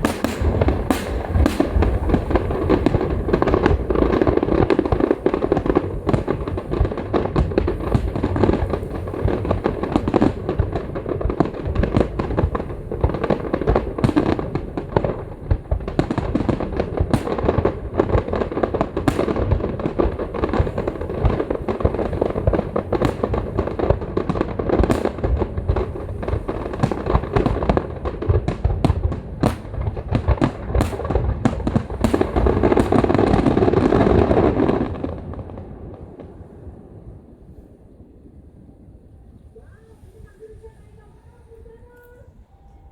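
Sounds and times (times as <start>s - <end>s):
fireworks cracking: 0.0s - 38.4s
fireworks booming: 0.0s - 42.2s.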